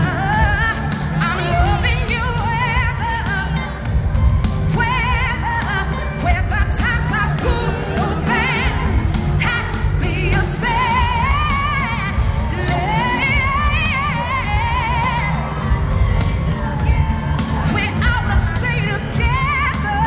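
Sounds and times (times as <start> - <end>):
live band playing pop song: 0.0 - 20.0.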